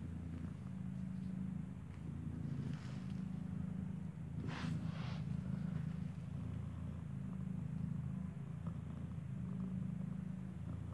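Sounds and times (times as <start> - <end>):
cat purring: 0.0 - 10.9.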